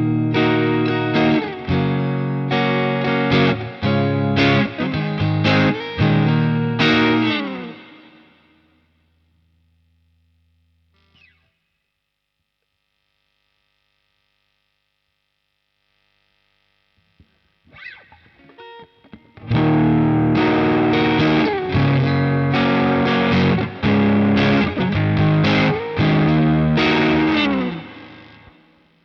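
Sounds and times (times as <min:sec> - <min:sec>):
overdriven electric guitar chords: 0:00.0 - 0:11.5, 0:17.0 - 0:29.0.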